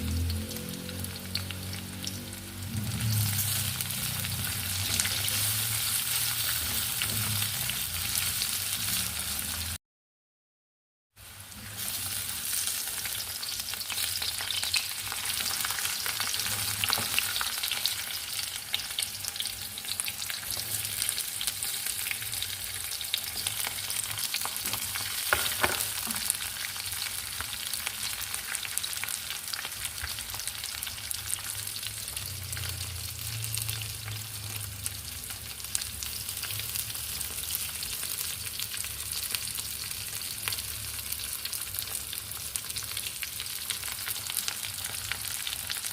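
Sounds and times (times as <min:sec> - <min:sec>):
food sizzling in hot oil: 0:00.0 - 0:09.8, 0:11.2 - 0:45.9.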